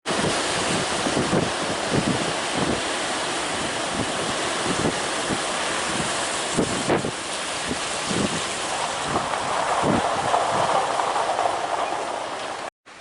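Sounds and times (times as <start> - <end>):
heavy surf rushing: 0.0 - 12.7
wind buffeting microphone: 0.0 - 12.7.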